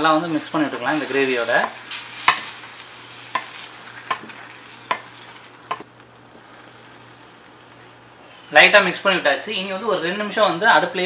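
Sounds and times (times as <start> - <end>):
soft sizzle: 0.0 - 11.0.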